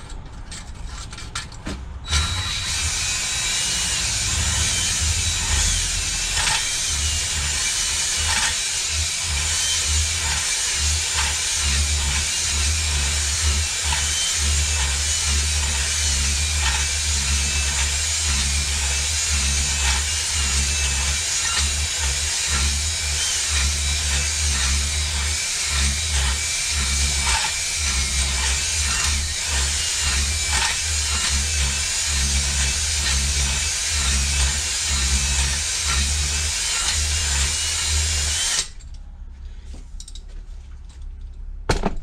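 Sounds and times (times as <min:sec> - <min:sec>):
electric drill honing metal cylinder: 0:02.0 - 0:38.8.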